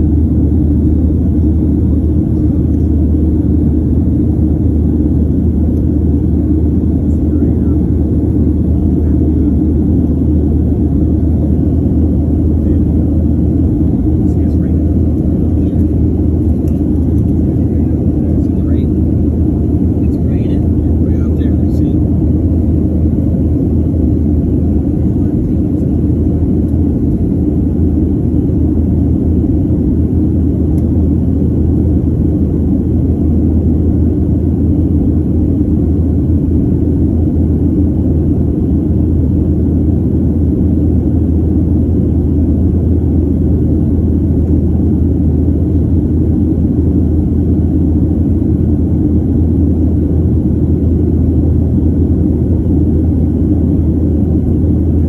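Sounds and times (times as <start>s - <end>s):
jet cabin rumble: 0.0s - 55.0s.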